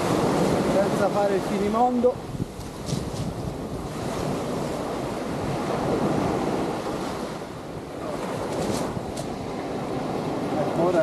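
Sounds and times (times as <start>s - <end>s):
sea surf breaking on shore: 0.0s - 11.0s
wind buffeting microphone: 0.0s - 11.0s.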